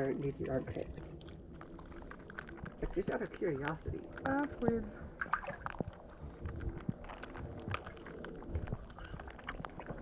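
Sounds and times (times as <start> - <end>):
water sloshing in a hot tub: 0.0 - 10.0.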